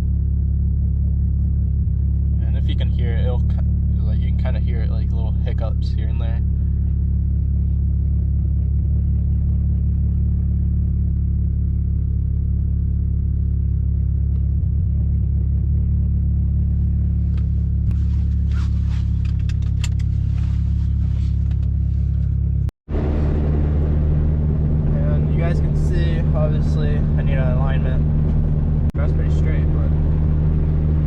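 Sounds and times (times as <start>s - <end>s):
car engine droning in cabin: 0.0s - 31.0s.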